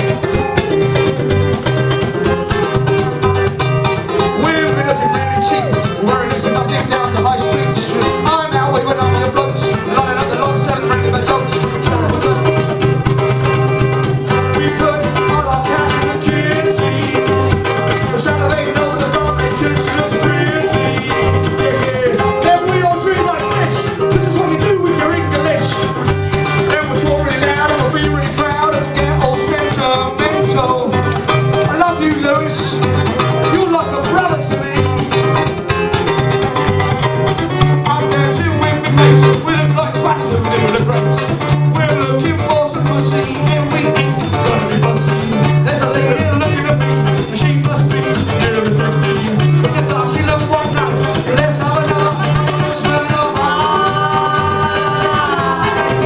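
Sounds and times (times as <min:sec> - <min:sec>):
bass guitar line: 0:00.0 - 0:56.0
strummed ukulele chords: 0:00.0 - 0:56.0.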